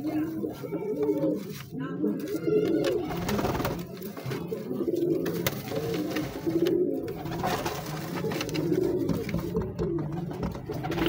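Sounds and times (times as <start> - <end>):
pigeons cooing: 0.0 - 11.0
rustling nesting material: 0.0 - 11.0.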